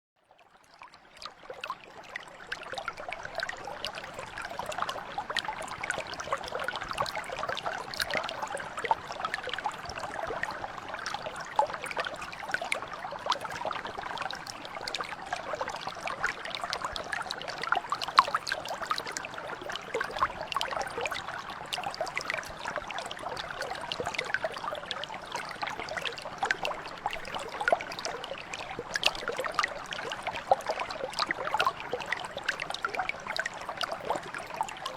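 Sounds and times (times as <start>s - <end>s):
brook flowing over stones: 0.3s - 34.9s.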